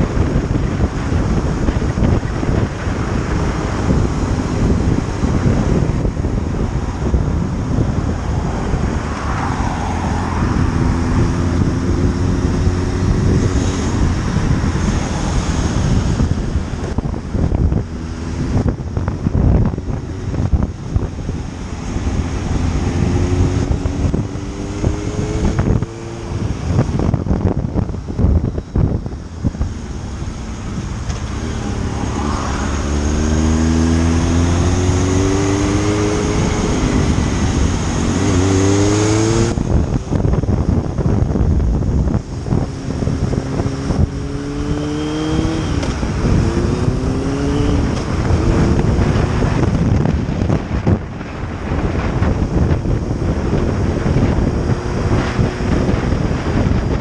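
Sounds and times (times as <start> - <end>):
heavy wind rush on microphone: 0.0 - 57.0
motorcycle engine: 0.0 - 57.0
road noise: 0.0 - 57.0.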